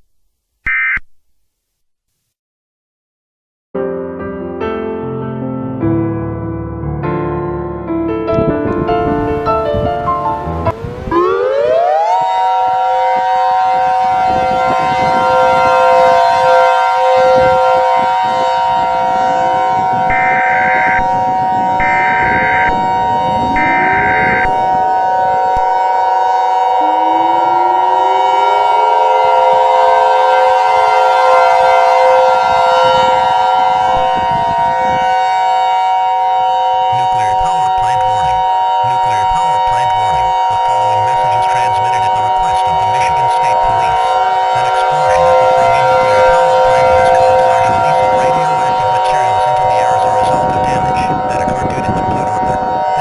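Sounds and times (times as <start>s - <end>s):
civil defense siren: 8.4s - 53.0s.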